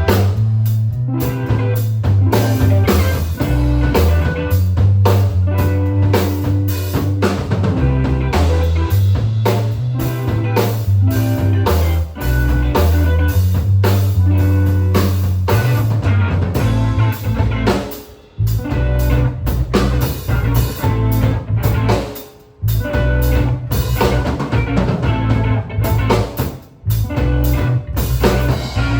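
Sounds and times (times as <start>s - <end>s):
bass line: 0.0s - 28.9s
drum kit beat: 0.0s - 28.9s
guitar: 0.0s - 28.9s.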